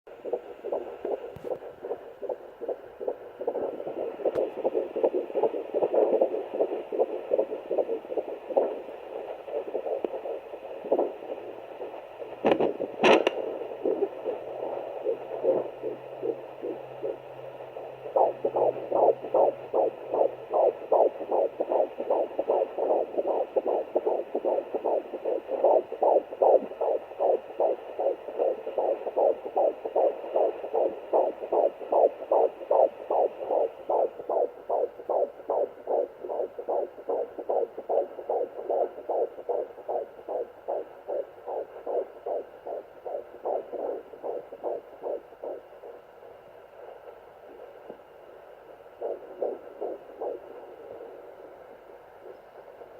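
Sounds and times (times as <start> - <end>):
fetal heartbeat on doppler: 0.1 - 52.9.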